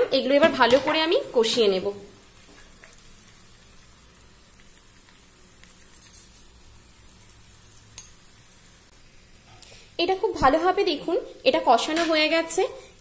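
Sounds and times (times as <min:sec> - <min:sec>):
vegetables sizzling faintly in oil: 0:00.0 - 0:13.0.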